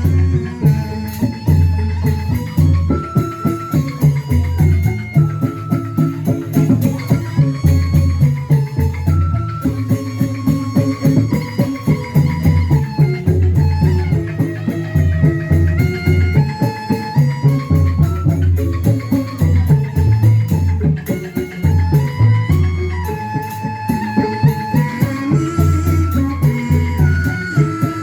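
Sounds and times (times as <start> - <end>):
instrumental music with beat: 0.0 - 28.0.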